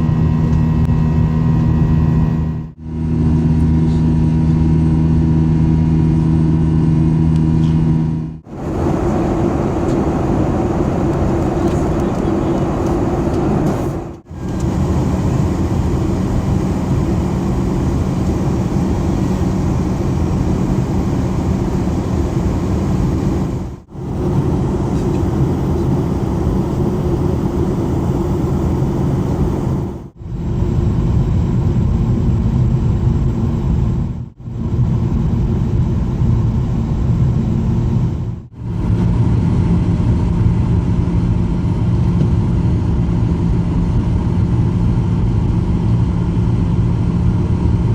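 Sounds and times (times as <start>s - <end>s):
airplane cabin drone: 0.0s - 47.9s.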